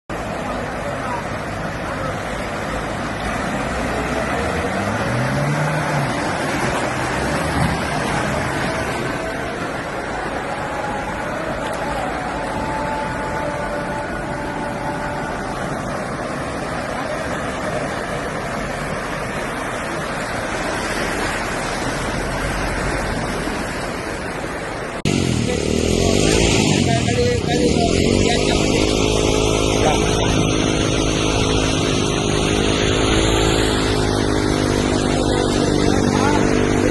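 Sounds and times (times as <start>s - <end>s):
engine running: 0.1s - 36.9s
rushing water: 0.1s - 36.9s.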